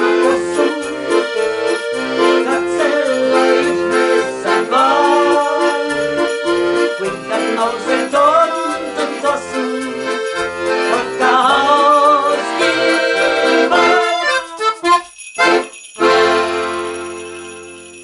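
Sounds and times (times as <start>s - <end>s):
piano accordion playing polka: 0.0s - 17.9s
shaken jingling percussion: 0.0s - 18.0s.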